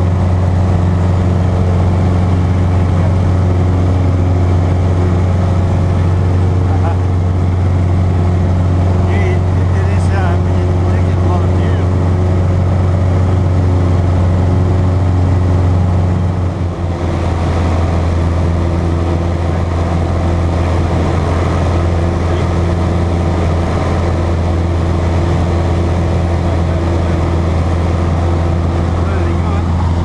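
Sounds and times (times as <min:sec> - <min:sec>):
airplane engine droning in cabin: 0:00.0 - 0:30.0.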